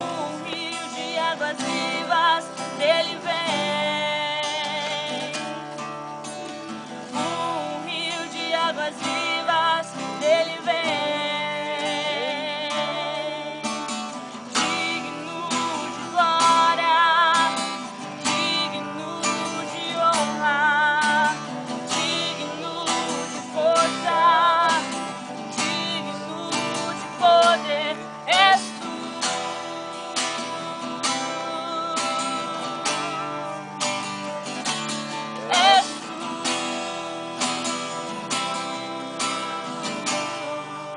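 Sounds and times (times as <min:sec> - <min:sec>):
acoustic guitar strumming: 0:00.0 - 0:40.9
person singing with vibrato: 0:00.0 - 0:40.9.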